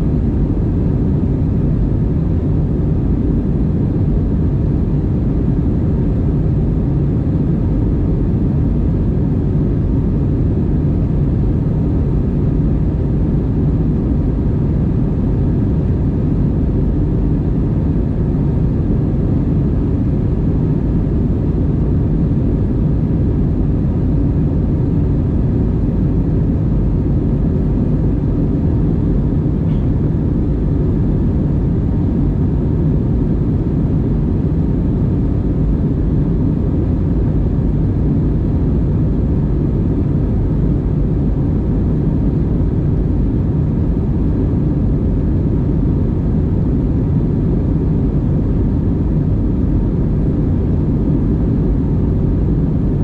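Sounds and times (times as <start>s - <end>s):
airflow over fuselage: 0.0s - 53.0s
jet engines roaring in cabin: 0.0s - 53.0s.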